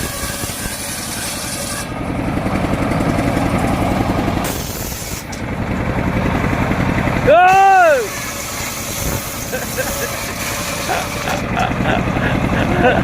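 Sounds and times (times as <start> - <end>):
engine running with low throb: 0.0 - 13.0.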